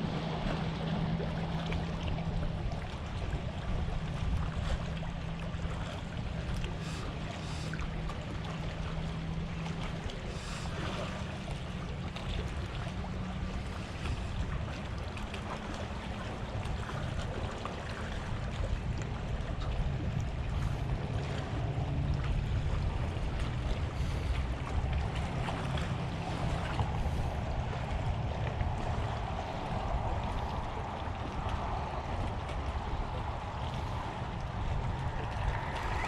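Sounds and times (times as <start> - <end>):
low motor hum: 0.0 - 36.0
water washing: 0.0 - 36.0
wind rumble on microphone: 0.0 - 36.0.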